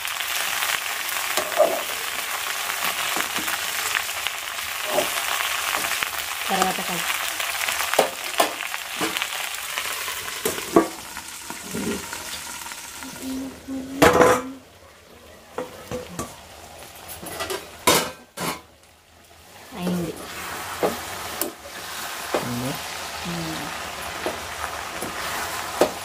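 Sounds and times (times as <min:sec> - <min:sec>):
vegetables sizzling in a pan: 0:00.0 - 0:26.0.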